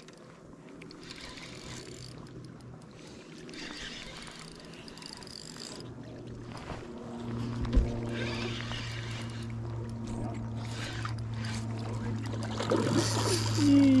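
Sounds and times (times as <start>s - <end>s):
fishing reel ticking and whirring: 0.0s - 6.8s, 7.9s - 14.0s.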